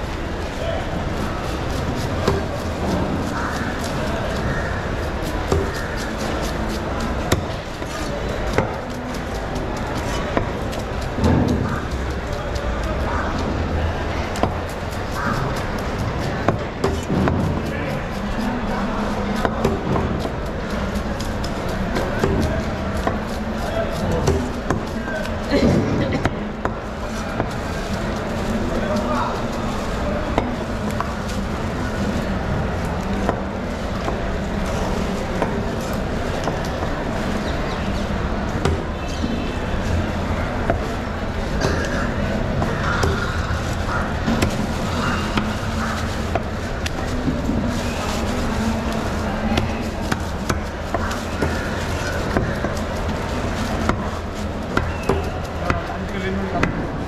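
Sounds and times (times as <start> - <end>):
background din with low hum: 0.0 - 57.0.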